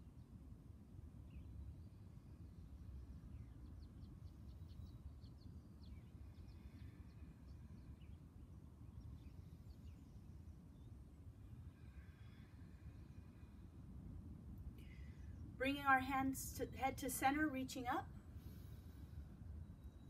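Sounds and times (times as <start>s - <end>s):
faint birds chirping: 0.0s - 20.0s
low steady rumble: 0.0s - 20.0s.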